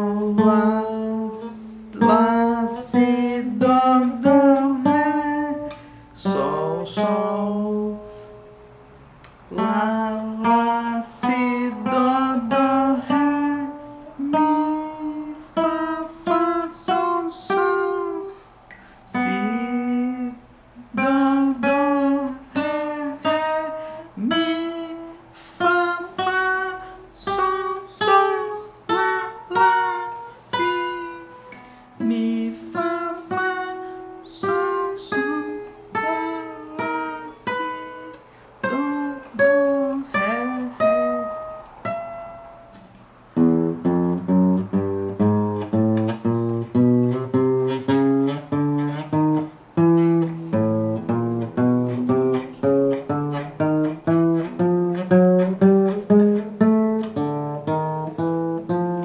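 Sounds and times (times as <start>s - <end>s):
acoustic guitar plucked notes: 0.0s - 59.0s.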